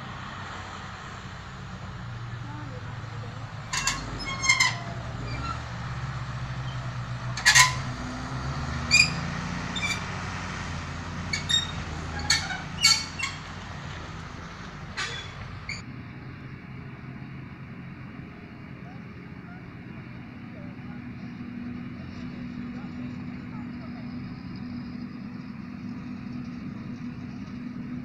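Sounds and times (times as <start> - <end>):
distant machine hum: 0.0 - 28.0
tractor engine running: 0.0 - 28.0.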